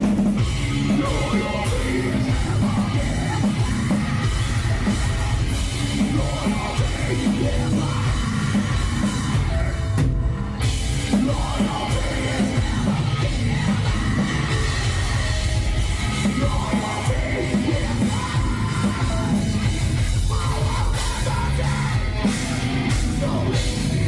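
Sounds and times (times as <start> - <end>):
distorted guitars: 0.0 - 24.0
drums: 0.0 - 24.0
heavy metal band playing live: 0.0 - 24.0
person singing: 0.8 - 10.0, 11.1 - 24.0.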